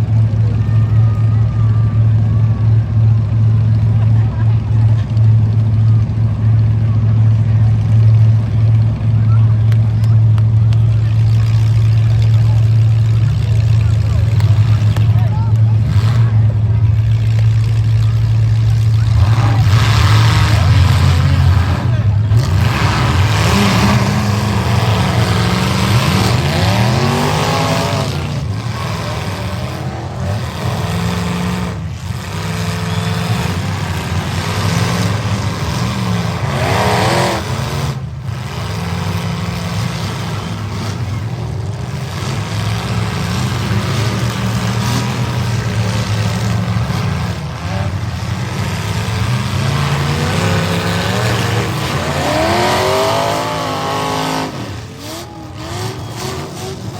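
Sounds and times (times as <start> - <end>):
pickup truck engines revving: 0.0 - 56.9.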